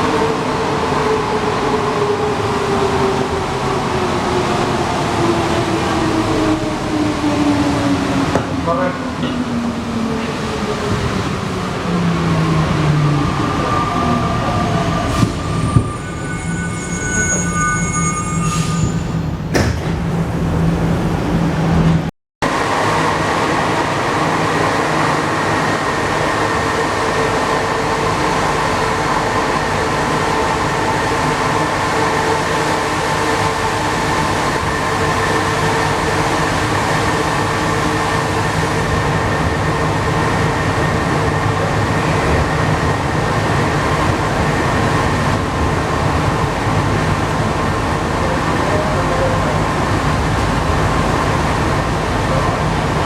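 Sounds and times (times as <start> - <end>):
metro train rumbling: 0.0 - 53.0.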